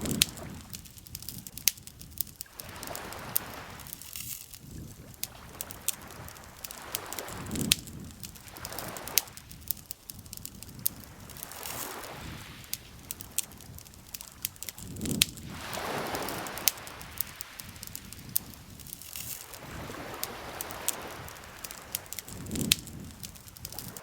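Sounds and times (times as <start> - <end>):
campfire crackling and popping: 0.0 - 24.0
lake water lapping: 2.4 - 10.1, 10.9 - 24.0.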